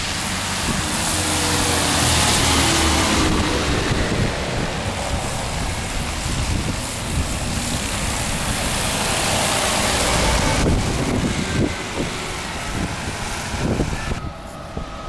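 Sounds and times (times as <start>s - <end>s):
storm wind buffeting microphone: 0.0s - 15.0s
traffic hiss on wet road: 0.0s - 15.0s.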